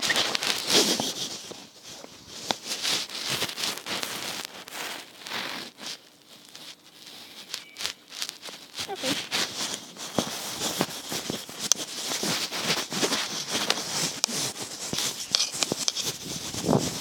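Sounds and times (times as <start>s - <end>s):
crackling rustling noise: 0.0s - 17.0s.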